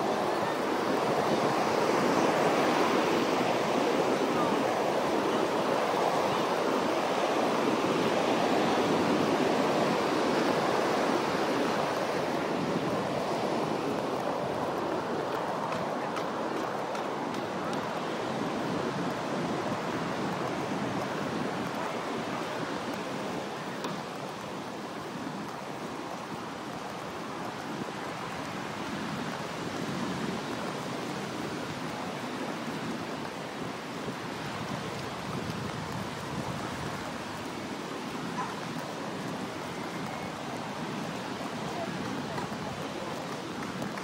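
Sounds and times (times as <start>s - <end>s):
ocean surf breaking: 0.0s - 44.0s.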